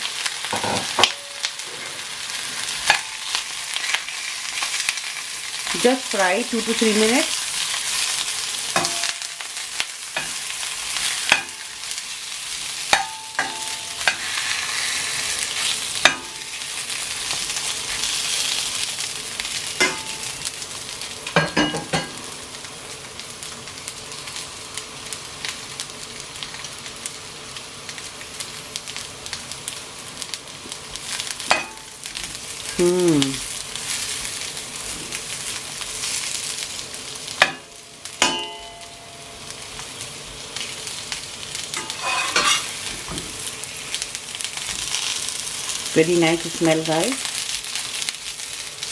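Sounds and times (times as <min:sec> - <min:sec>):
sausages sizzling in a pan: 0:00.0 - 0:48.9.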